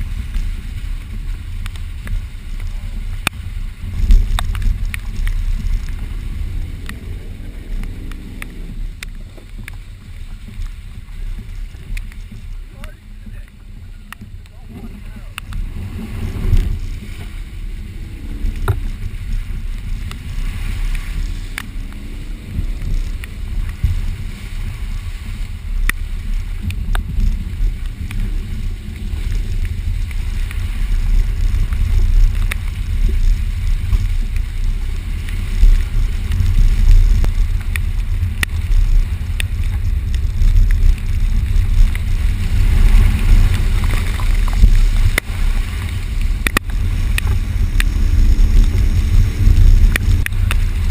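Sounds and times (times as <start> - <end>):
vehicle rumbling over rough ground: 0.0 - 50.9.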